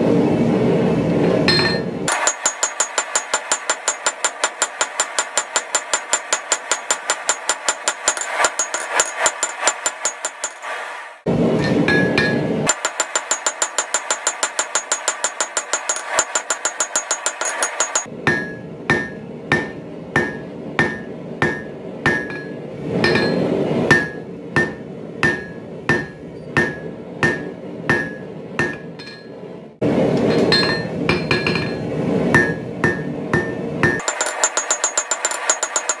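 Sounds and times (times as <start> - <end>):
hammer striking blade on anvil: 1.5 - 10.7, 11.6 - 29.4, 30.3 - 36.0.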